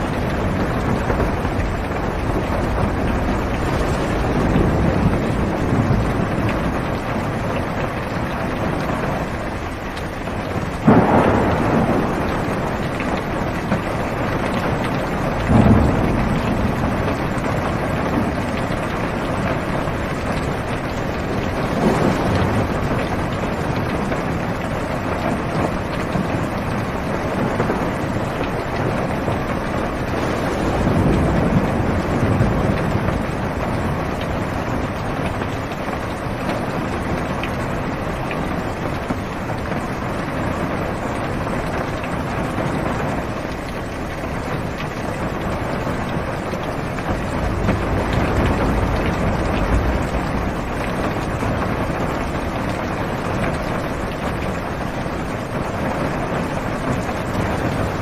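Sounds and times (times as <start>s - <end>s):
heavy rain on car roof: 0.0s - 58.0s
thunder rolling: 0.0s - 58.0s.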